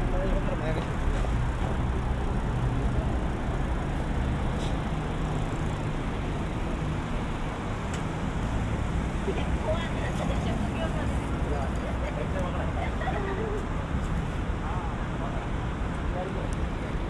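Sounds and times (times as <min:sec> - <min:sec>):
city traffic rumble: 0:00.0 - 0:17.0
vehicle engine running nearby: 0:00.0 - 0:17.0.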